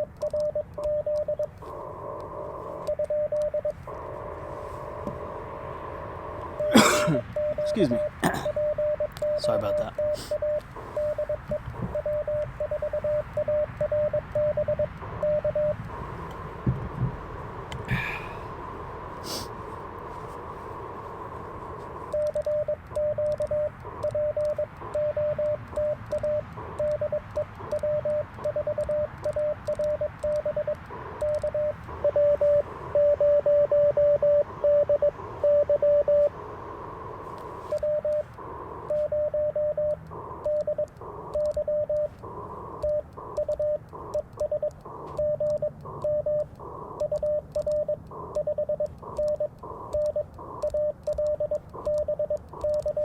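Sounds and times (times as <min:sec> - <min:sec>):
morse code tone: 0:00.0 - 0:16.6, 0:19.7 - 0:53.0
radio band hiss: 0:01.6 - 0:02.9, 0:03.7 - 0:08.6, 0:09.3 - 0:13.8, 0:14.9 - 0:22.2, 0:23.6 - 0:47.2, 0:47.9 - 0:53.0.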